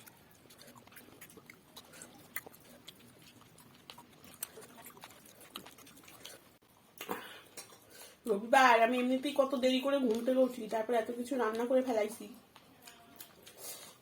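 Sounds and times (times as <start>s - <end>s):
chewing and eating: 0.0s - 8.2s, 9.8s - 14.0s.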